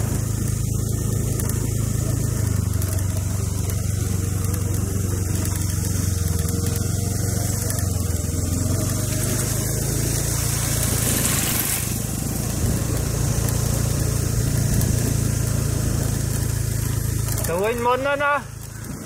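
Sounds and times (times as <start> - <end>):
motorbike engine running: 0.0 - 19.0
road hiss: 0.0 - 19.0
wind: 0.0 - 19.0.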